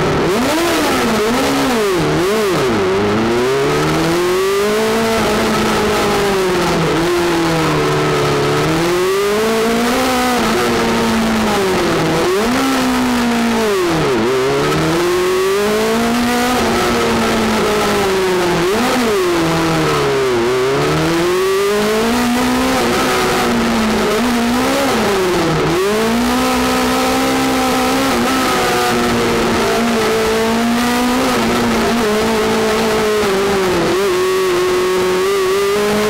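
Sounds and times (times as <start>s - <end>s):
racing car engine revving hard: 0.0s - 36.0s.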